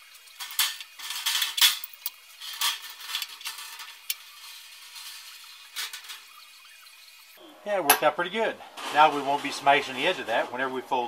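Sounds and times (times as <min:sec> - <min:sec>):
sheet metal scraping and clinking: 0:00.4 - 0:06.4, 0:07.9 - 0:11.0.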